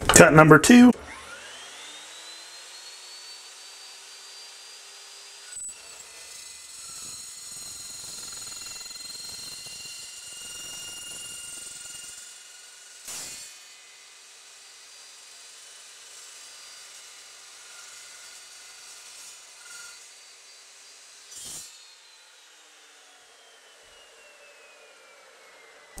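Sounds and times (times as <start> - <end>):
chop saw whine: 1.0 - 26.0.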